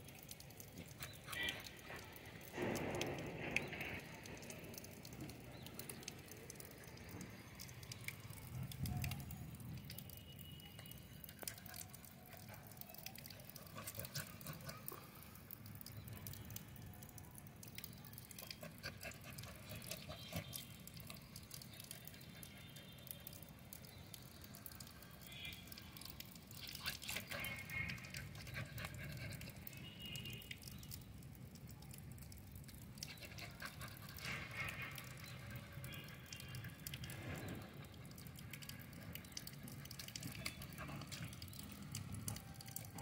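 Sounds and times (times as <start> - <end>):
water pattering on tiled floor: 0.0 - 43.0.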